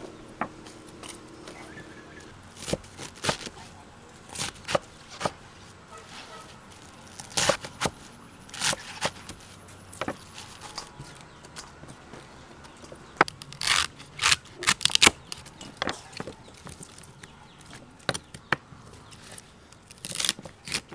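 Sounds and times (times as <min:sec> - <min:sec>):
vegetables rustling: 0:00.0 - 0:18.1, 0:18.7 - 0:20.9.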